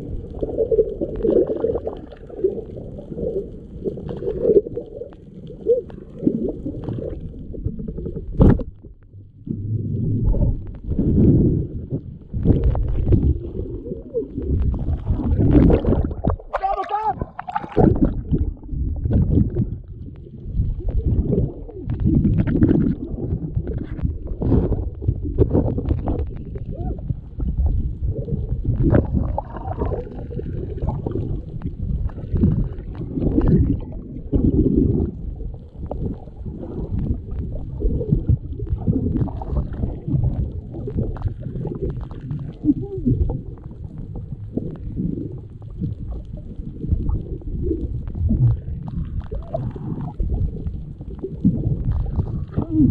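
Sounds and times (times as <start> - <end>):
underwater water rushing: 0.0 - 52.9.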